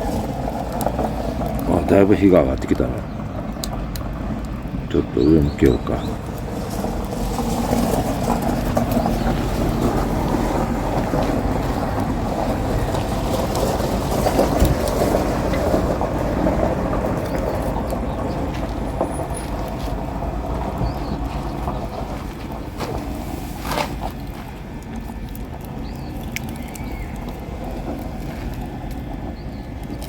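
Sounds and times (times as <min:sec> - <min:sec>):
campfire rushing: 0:00.0 - 0:30.0.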